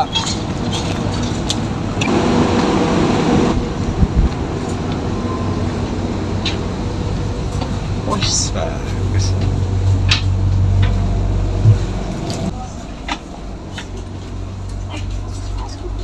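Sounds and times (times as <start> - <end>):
stationary train humming: 1.6 - 16.0.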